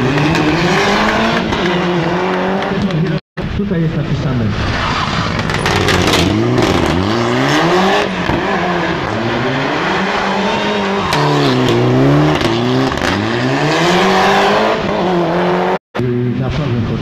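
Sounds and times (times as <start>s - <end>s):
rally car engine revving: 0.0s - 3.2s, 4.4s - 17.0s.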